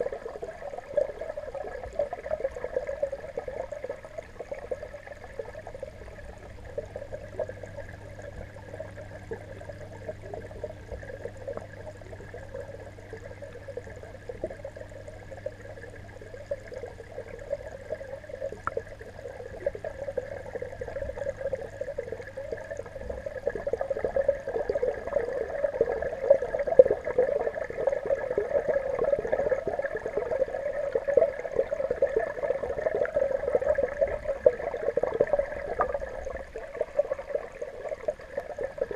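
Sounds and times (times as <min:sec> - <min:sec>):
low steady hum: 0:00.0 - 0:38.9
underwater bubbling crackle: 0:00.0 - 0:38.9.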